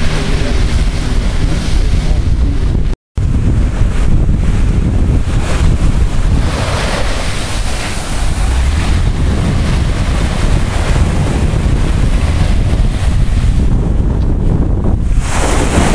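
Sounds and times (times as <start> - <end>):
surf waves washing on sand: 0.0 - 15.9
wind buffeting microphone: 0.0 - 15.9.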